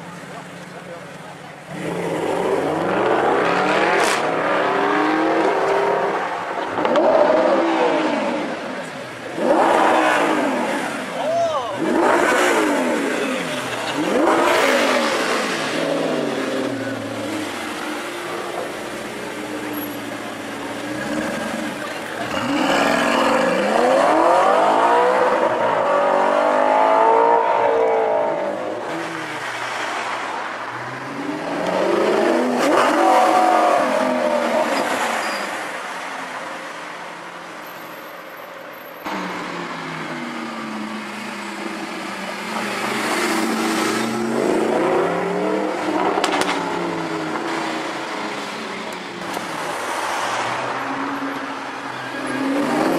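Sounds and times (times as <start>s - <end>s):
car engine accelerating and revving: 1.6s - 11.2s, 11.8s - 36.1s, 39.0s - 52.9s.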